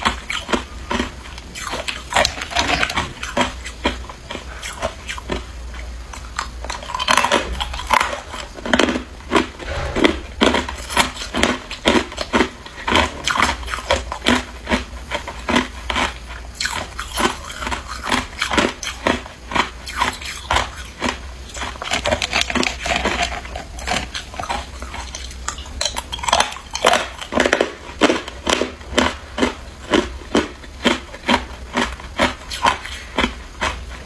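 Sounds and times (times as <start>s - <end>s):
crunching ice cubes: 6.2s - 34.0s.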